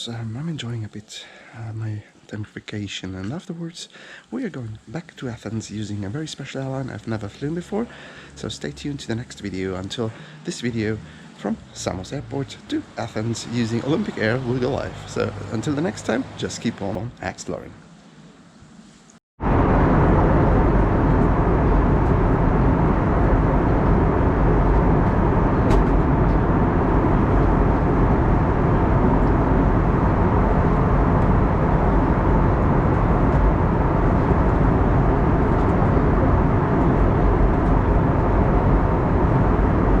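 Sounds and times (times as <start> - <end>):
loud steady rumbling noise: 3.6 - 40.0.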